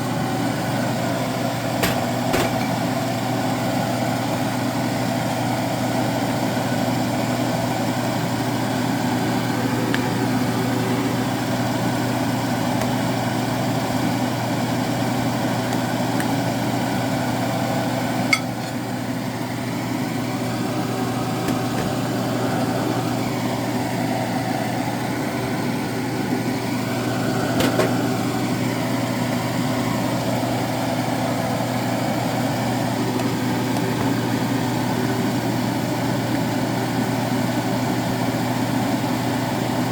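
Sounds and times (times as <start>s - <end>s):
steady mechanical motor hum: 0.0s - 39.9s.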